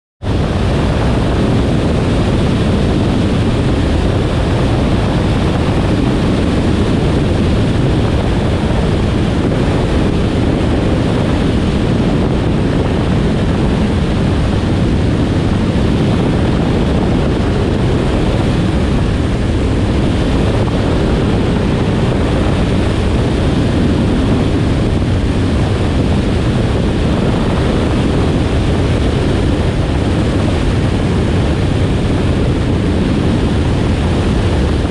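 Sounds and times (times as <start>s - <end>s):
light aircraft engine and propeller: 0.2s - 34.9s
wind buffeting microphone: 0.2s - 34.9s.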